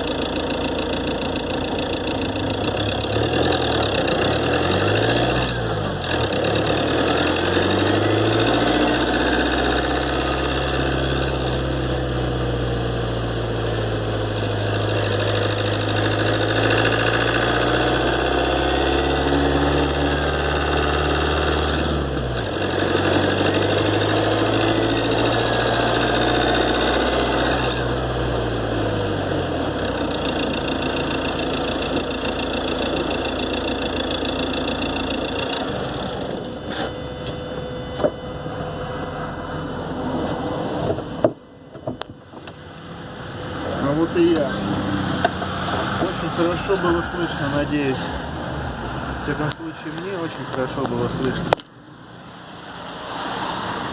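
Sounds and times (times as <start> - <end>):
diesel engine revving: 0.0 - 37.7, 42.7 - 53.9.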